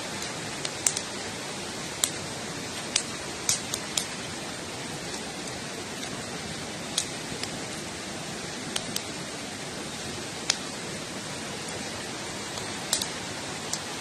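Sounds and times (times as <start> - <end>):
campfire hissing: 0.0 - 14.0
fire crackles and pops: 0.0 - 14.0.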